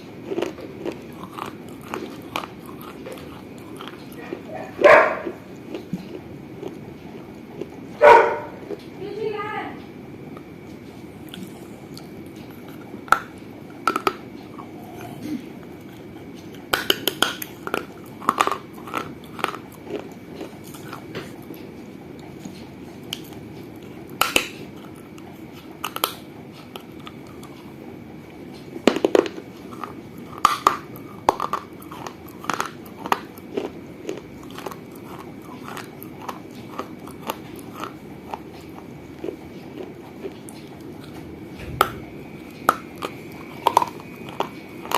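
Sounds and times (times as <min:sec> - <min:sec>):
clay being bitten and chewed: 0:00.0 - 0:09.0, 0:10.3 - 0:44.9.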